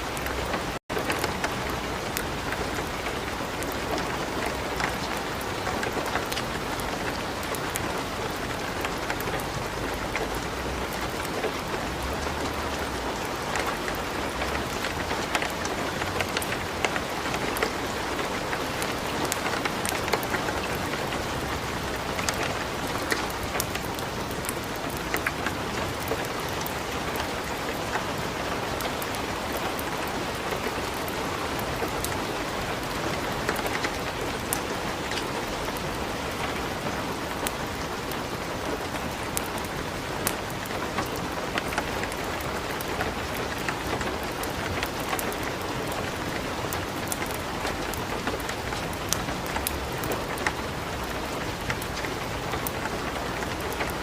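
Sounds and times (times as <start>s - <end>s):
light rain falling: 0.0s - 54.0s
wood fire crackling: 0.1s - 28.0s, 28.8s - 36.6s, 37.2s - 54.0s.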